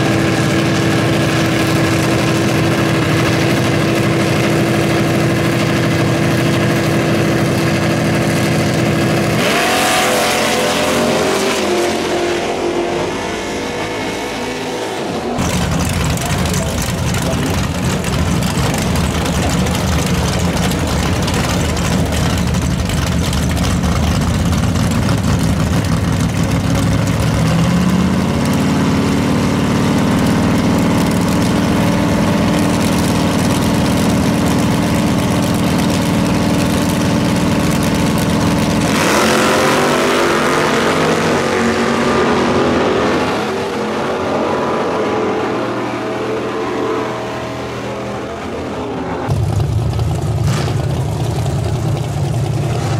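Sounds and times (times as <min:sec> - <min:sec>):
drag racing engines revving: 0:00.0 - 0:52.9.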